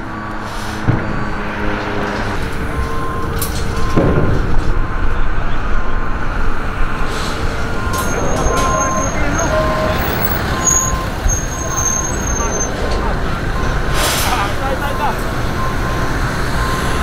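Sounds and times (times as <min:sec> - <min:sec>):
diesel engine running: 0:00.0 - 0:17.0
street and construction noise: 0:00.0 - 0:17.0.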